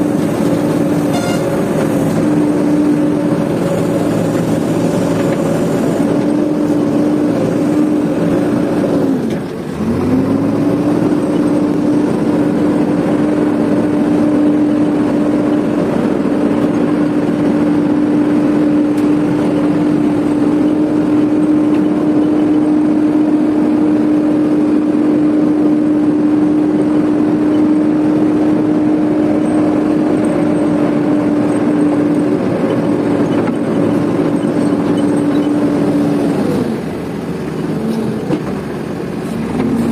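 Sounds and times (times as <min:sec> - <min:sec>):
diesel engine running at high revs: 0:00.0 - 0:39.9.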